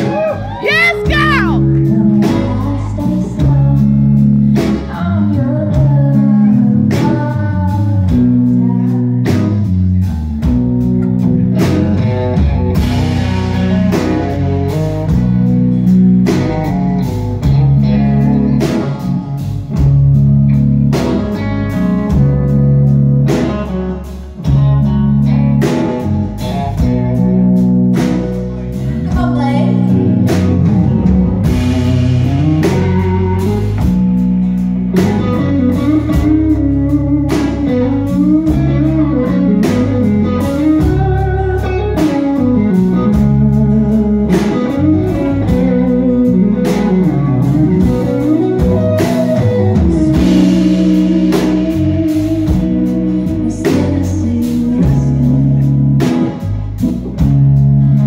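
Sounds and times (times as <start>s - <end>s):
band playing country blues: 0.0s - 58.0s
bending lead guitar line: 0.0s - 58.0s.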